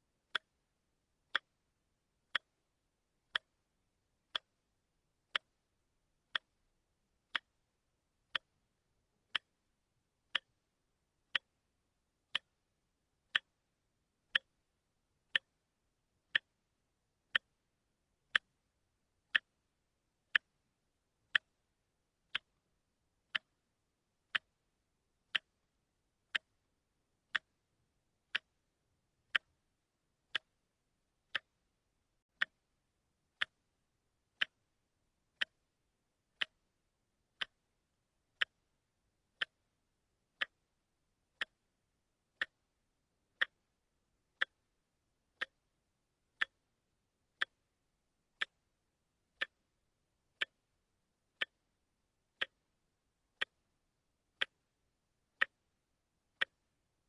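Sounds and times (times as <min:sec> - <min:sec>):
watch ticking: 0:00.0 - 0:00.6, 0:01.2 - 0:12.6, 0:13.2 - 0:15.6, 0:16.2 - 0:39.8, 0:40.4 - 0:45.8, 0:46.4 - 0:46.8, 0:47.4 - 0:47.8, 0:48.4 - 0:48.8, 0:49.4 - 0:49.7, 0:50.3 - 0:54.8, 0:55.4 - 0:56.9.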